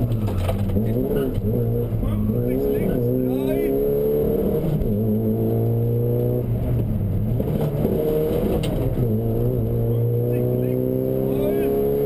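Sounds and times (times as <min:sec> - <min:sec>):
car engine running at speed: 0:00.0 - 0:12.0.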